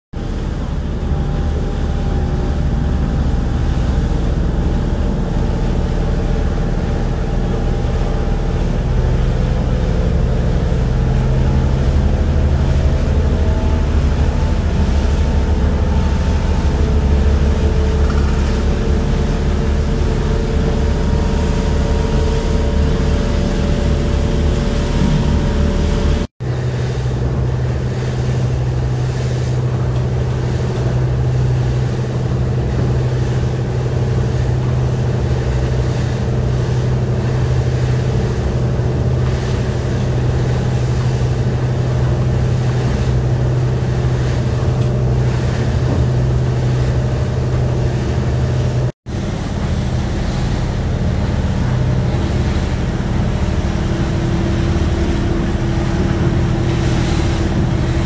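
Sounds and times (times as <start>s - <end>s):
motorboat engine droning: 0.2s - 58.0s
wind and water hiss: 0.2s - 58.0s.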